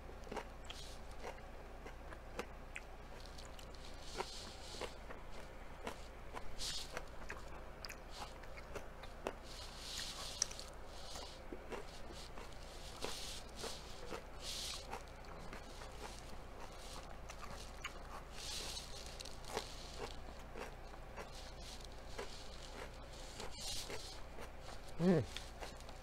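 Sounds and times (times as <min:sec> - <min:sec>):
wet mouth chewing smacks: 0:00.3 - 0:21.5.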